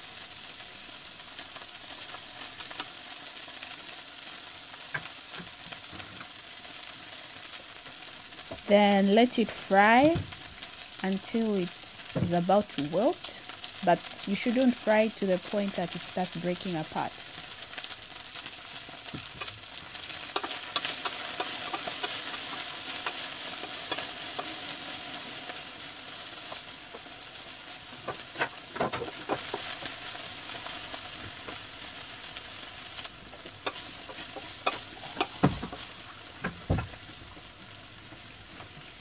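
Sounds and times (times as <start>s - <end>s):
okra sizzling in oil: 0.0s - 39.0s.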